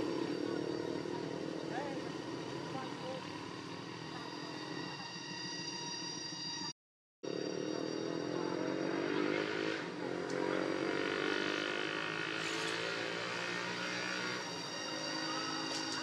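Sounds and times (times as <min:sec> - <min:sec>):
engine running: 0:00.0 - 0:05.7, 0:07.3 - 0:16.0.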